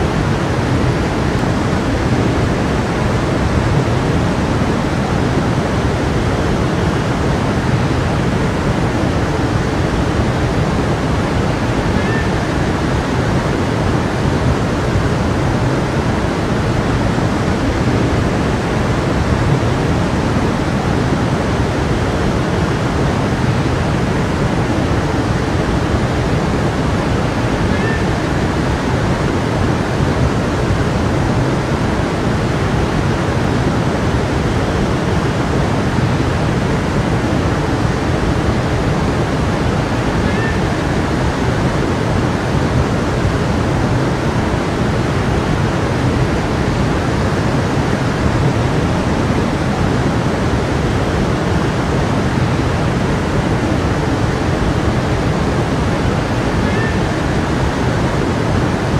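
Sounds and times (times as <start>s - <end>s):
water rushing over rocks: 0.0s - 58.9s.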